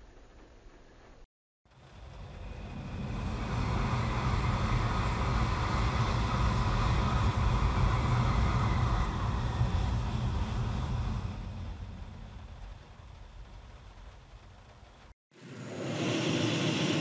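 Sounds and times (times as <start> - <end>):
trains rushing past: 1.7 - 17.0.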